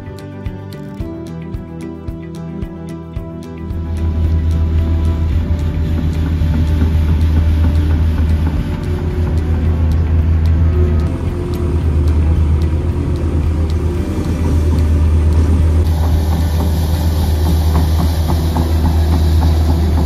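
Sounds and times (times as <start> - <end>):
boat diesel engine running: 0.0 - 20.0
steady hiss: 0.0 - 20.0.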